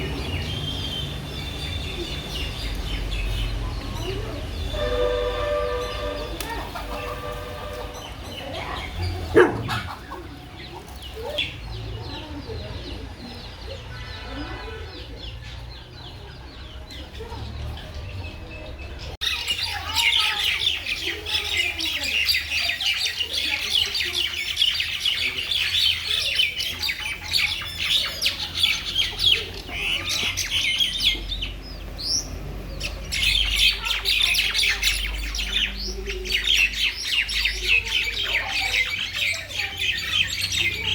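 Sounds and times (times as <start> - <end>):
mynas chirping: 0.0 - 13.8, 15.0 - 40.9.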